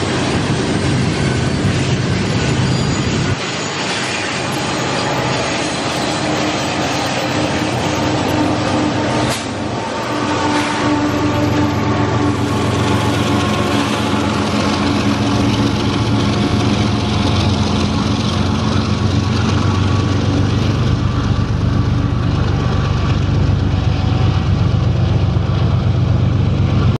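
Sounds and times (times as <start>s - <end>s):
diesel locomotive engines droning: 0.0s - 27.0s
train rumble: 0.0s - 27.0s.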